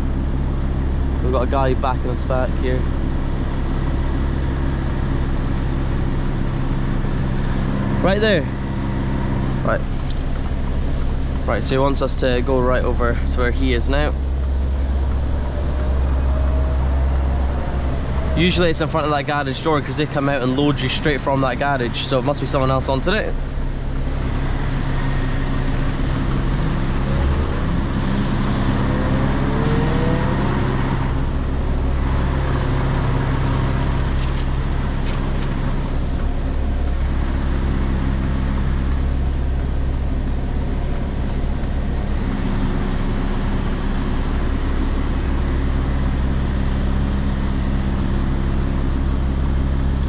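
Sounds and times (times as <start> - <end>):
lorry diesel engine idling: 0.0 - 50.0.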